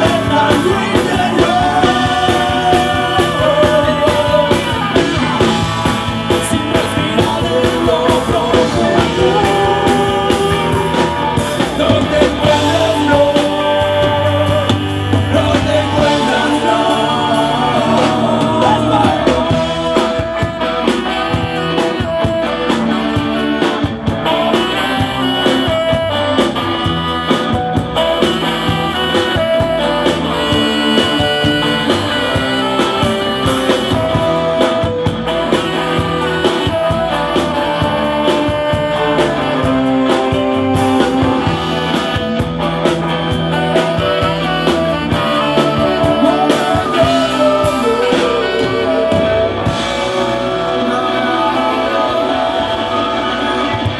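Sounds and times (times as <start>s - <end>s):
bass: 0.0s - 53.9s
drums: 0.0s - 53.9s
electric guitars: 0.0s - 53.9s
person singing lead vocal: 0.0s - 53.9s
saxophone: 0.0s - 53.9s.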